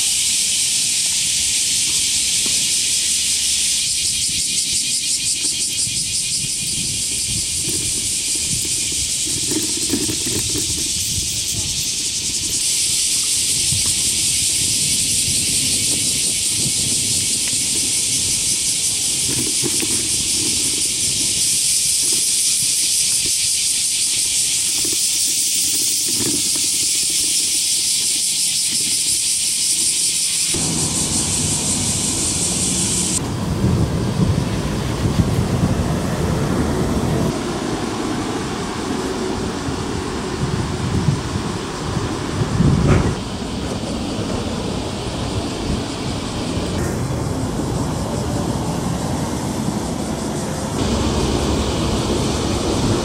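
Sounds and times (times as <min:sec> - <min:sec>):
cicadas buzzing: 0:00.0 - 0:53.0
road traffic rumble: 0:00.0 - 0:53.0
wind: 0:00.0 - 0:53.0.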